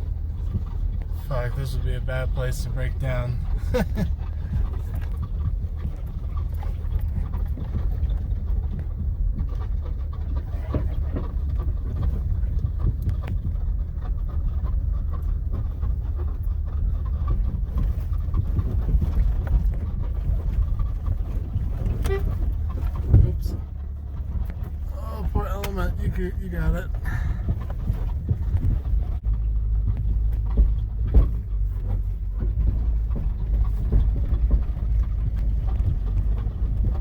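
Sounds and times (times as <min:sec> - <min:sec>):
car engine and tyres rumbling: 0:00.0 - 0:37.0
knocks and rattles: 0:02.1 - 0:37.0.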